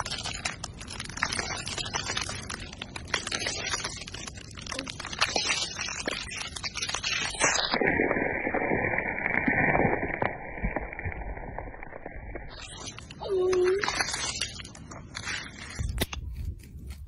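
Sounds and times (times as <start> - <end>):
thin ice cracking: 0.0 - 17.0.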